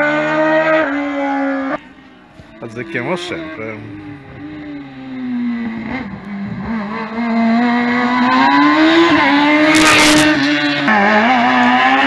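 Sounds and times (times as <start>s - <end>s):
car engine revving hard: 0.0s - 1.8s, 3.2s - 12.0s.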